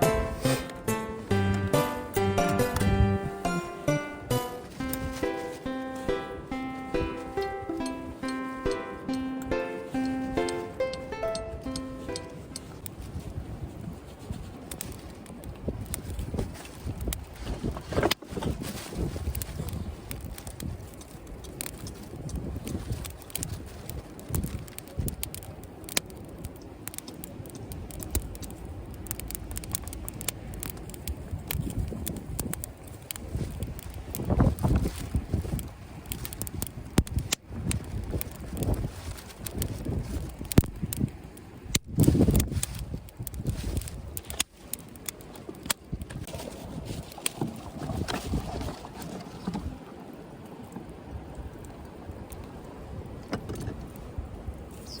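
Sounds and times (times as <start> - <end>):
wood fire crackling: 0.0 - 55.0
wind rumble on microphone: 9.8 - 55.0.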